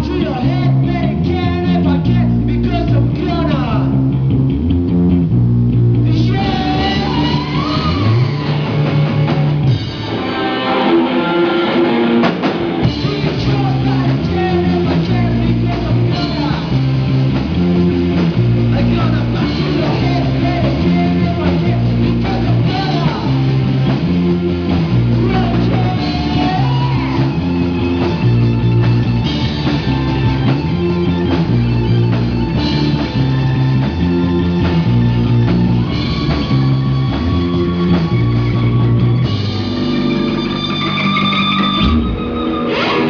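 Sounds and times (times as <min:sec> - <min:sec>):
rock band playing: 0:00.0 - 0:43.0.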